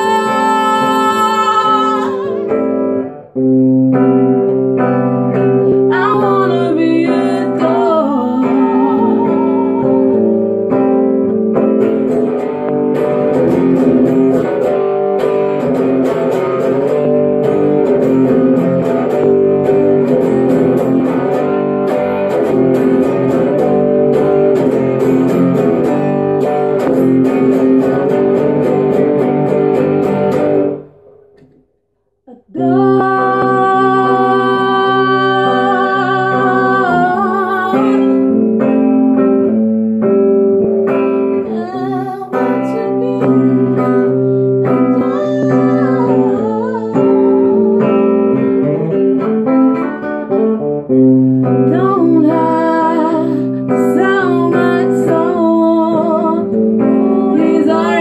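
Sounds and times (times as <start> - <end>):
electric guitar strumming: 0.0 - 31.6, 32.6 - 58.0.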